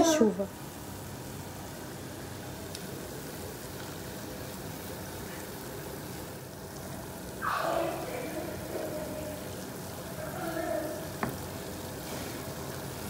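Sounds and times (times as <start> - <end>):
dough deep-frying in oil: 0.0 - 13.0.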